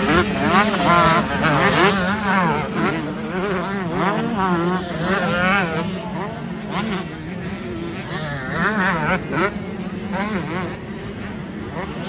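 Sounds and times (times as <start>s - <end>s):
motocross bike engines buzzing: 0.0s - 12.0s.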